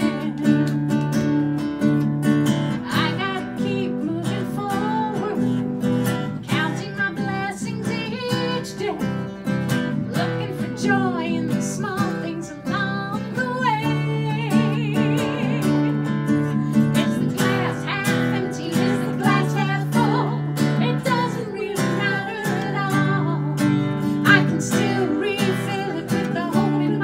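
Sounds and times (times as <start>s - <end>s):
woman singing with vibrato: 0.0s - 0.9s, 2.8s - 9.3s, 10.0s - 27.0s
strummed acoustic guitar: 0.0s - 27.0s.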